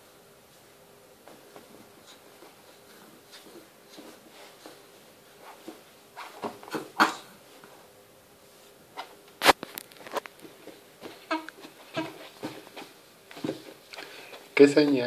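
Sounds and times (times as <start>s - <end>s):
rustling on padded mat: 0.4s - 15.0s.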